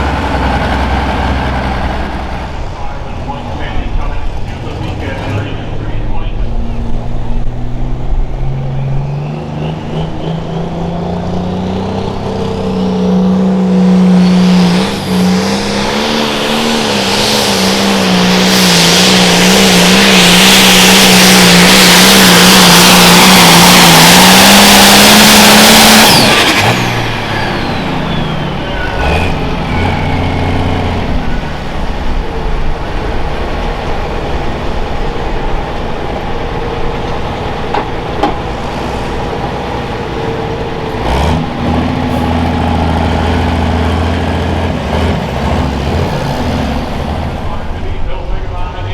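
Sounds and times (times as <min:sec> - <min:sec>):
diesel engine throttling: 0:00.0 - 0:48.9
turbo whine: 0:06.0 - 0:48.9.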